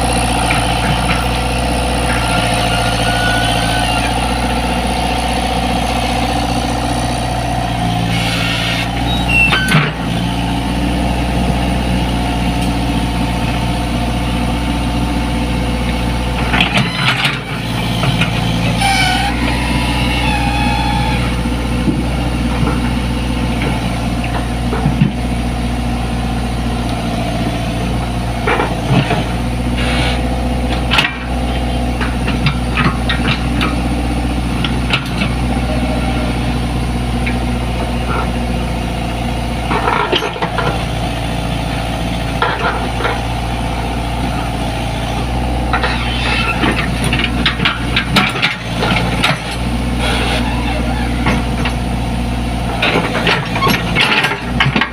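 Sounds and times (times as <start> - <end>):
excavator diesel engine idling: 0.0 - 54.9.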